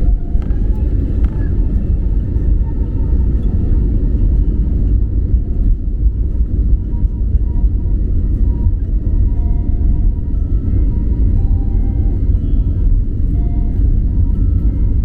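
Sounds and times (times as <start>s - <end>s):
faint steady tones: 0.0s - 15.0s
jet engines low rumble: 0.0s - 15.0s.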